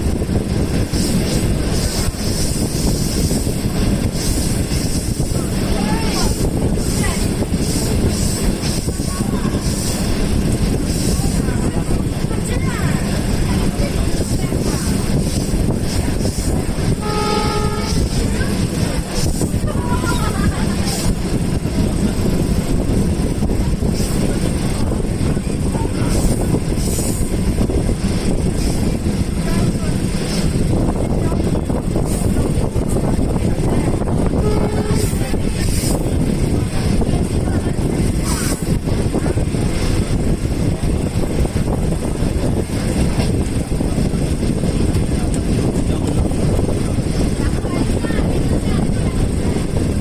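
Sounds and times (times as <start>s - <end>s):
train rushing noise: 0.0s - 50.0s
train wheels rumbling on rails: 0.0s - 50.0s
wind noise: 0.0s - 50.0s.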